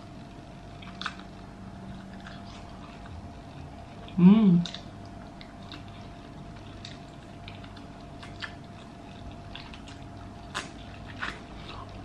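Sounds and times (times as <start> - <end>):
wet mouth chewing smacks: 1.9 - 12.0.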